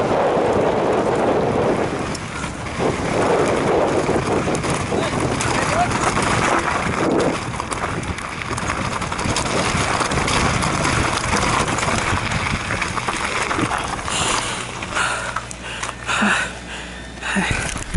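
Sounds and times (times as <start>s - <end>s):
wind buffeting microphone: 0.0s - 15.7s
bike rattling over stones: 0.0s - 16.5s, 17.4s - 17.9s
tyres crunching on gravel: 1.6s - 16.7s.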